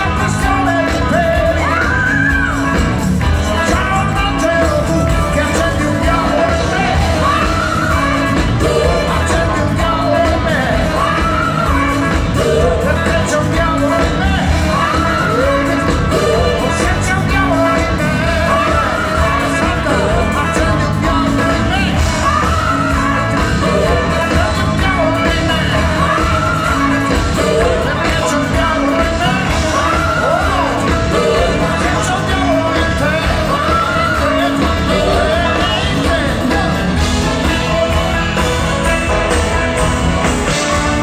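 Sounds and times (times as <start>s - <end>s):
lead vocal singing: 0.0s - 41.0s
live rock band: 0.0s - 41.0s.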